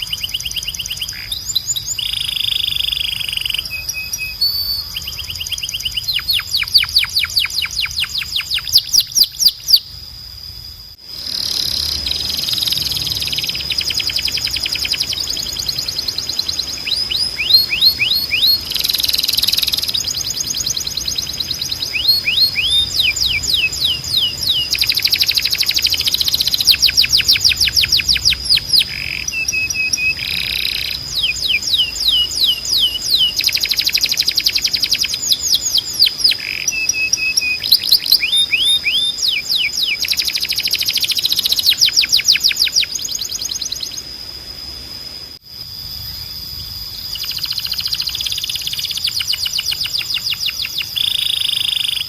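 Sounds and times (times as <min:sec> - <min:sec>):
canary singing trills: 0:00.0 - 0:10.0, 0:11.2 - 0:44.2, 0:46.0 - 0:52.0.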